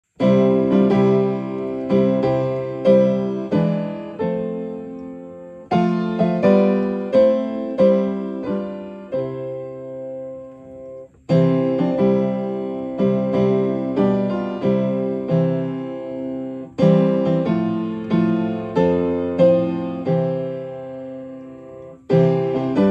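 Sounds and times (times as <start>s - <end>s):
piano playing hymn chords: 0.1s - 22.9s.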